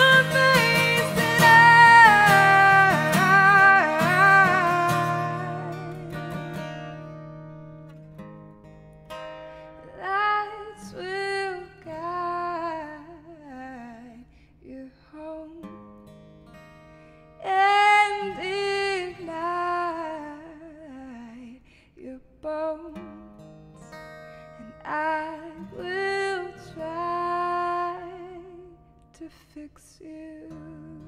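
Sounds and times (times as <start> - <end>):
woman singing: 0.0 - 6.9, 9.8 - 15.9, 17.3 - 23.8, 24.4 - 31.0
acoustic guitar: 0.0 - 31.0.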